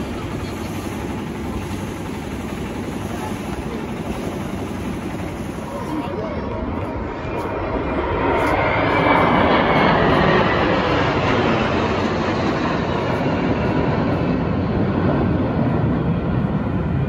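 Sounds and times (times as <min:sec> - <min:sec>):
jet engines roaring overhead: 0:00.0 - 0:17.0.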